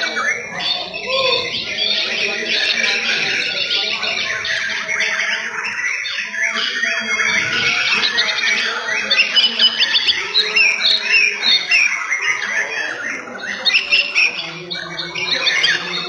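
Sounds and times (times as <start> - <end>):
birds singing whistles and trills: 0.0 - 16.0.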